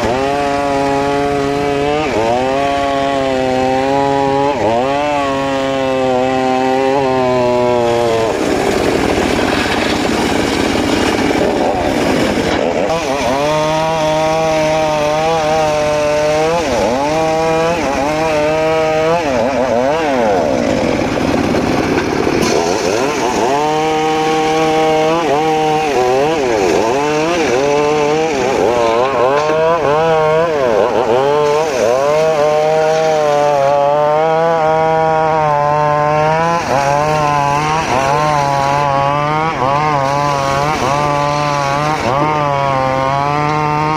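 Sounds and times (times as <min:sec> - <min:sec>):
circular saw cutting wood: 0:00.0 - 0:43.9.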